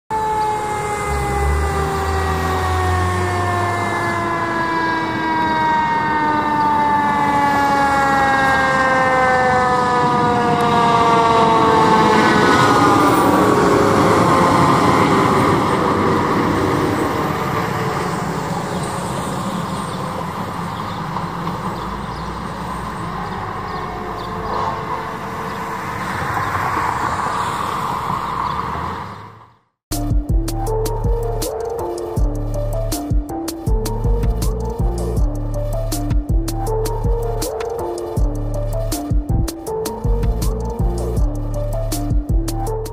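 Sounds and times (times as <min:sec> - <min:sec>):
fire engine siren wailing: 0:00.1 - 0:29.4, 0:30.6 - 0:42.9
truck engine and road noise: 0:00.1 - 0:42.9.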